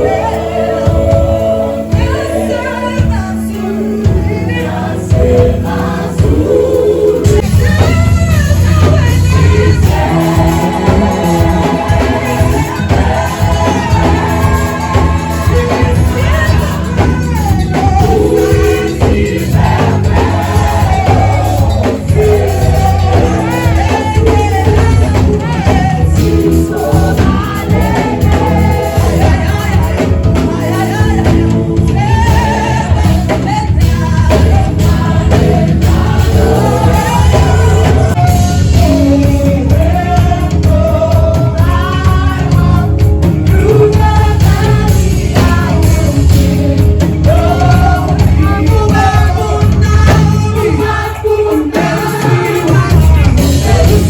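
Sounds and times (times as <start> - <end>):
gospel song with singing: 0.0 - 54.0.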